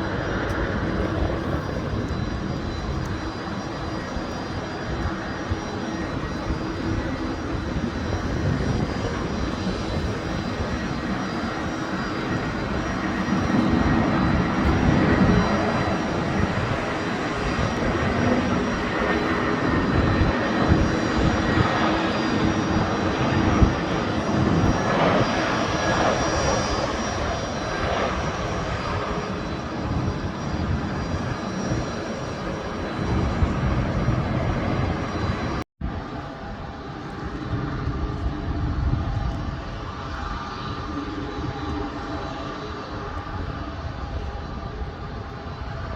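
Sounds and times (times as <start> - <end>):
jet engines rushing: 0.0 - 45.9.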